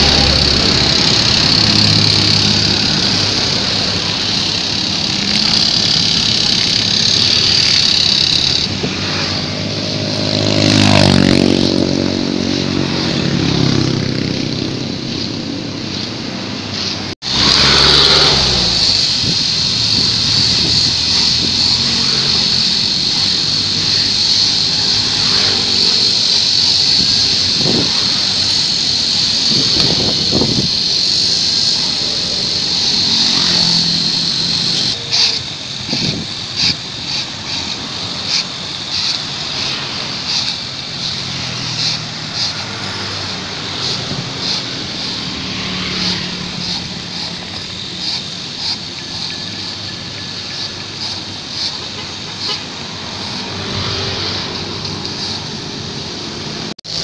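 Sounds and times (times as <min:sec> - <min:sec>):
rake scraping grass on pavement: 0:00.0 - 0:14.6, 0:15.2 - 0:57.0
high-pitched whine: 0:00.0 - 0:57.0
passing road traffic: 0:00.0 - 0:57.0.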